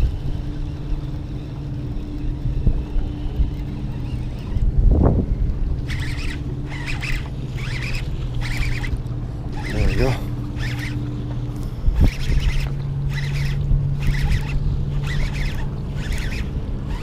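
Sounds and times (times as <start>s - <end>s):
low steady hum: 0.0s - 17.0s
wind buffeting microphone: 0.0s - 17.0s.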